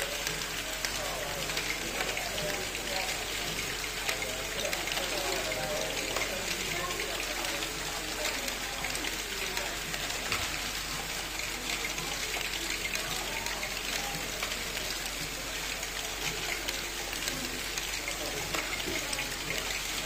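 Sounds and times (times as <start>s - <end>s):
plastic balls rattling and clicking: 0.0s - 20.0s.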